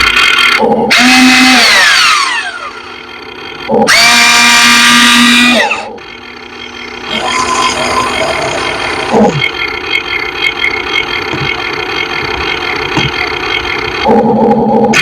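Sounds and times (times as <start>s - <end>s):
toy excavator motors whining: 0.0s - 15.0s.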